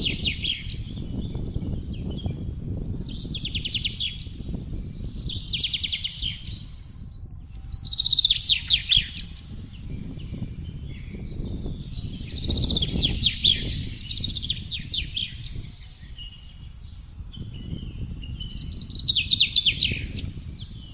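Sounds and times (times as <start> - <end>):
songbird trilling: 0.0 - 20.9
wind rushing: 0.0 - 20.9.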